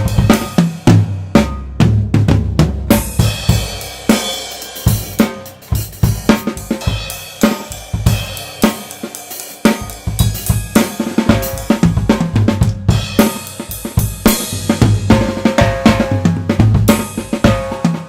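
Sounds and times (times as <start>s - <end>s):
drum kit playing a groove: 0.0s - 18.0s.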